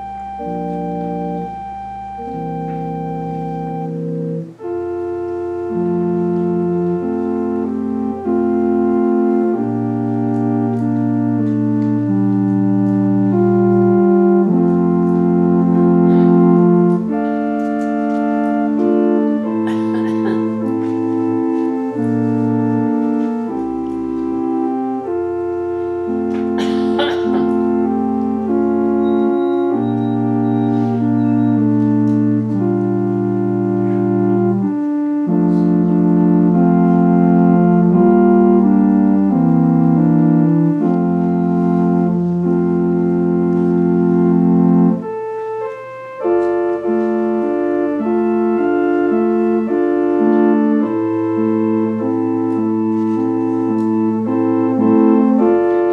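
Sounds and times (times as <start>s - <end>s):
organ playing held chords: 0.0s - 55.9s.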